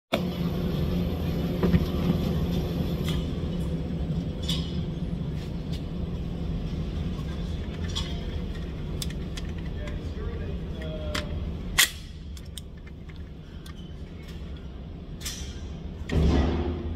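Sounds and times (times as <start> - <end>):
ventilation rumble and hum: 0.1 - 16.9.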